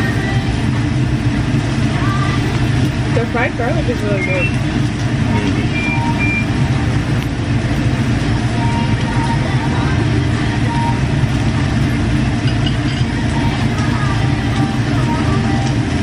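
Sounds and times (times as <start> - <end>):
low rumble of restaurant noise: 0.0 - 16.0.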